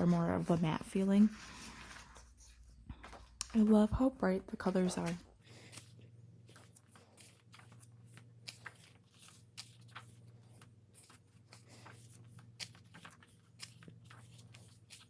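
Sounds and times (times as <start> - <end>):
paper pages rustling: 0.0 - 3.9, 4.6 - 15.0.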